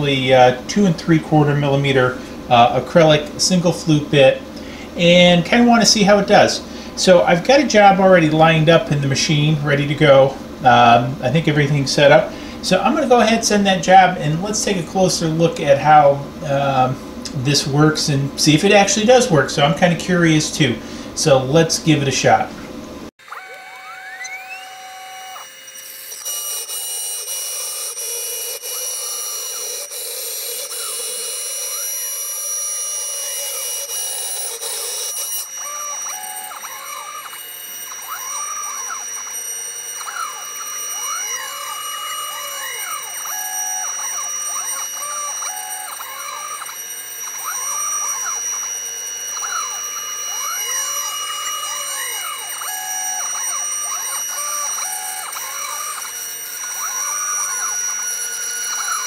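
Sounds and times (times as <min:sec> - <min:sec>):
router spindle whining: 0:00.0 - 0:59.0
stepper motor tones: 0:00.0 - 0:59.0.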